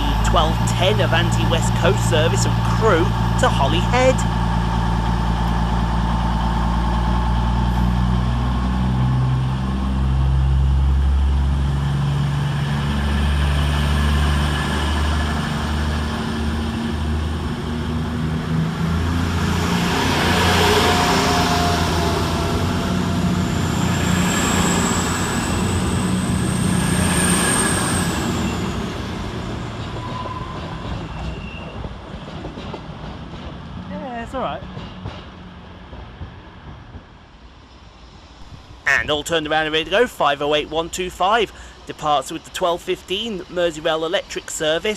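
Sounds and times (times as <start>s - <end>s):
diesel train engines pulling away: 0.0s - 44.9s.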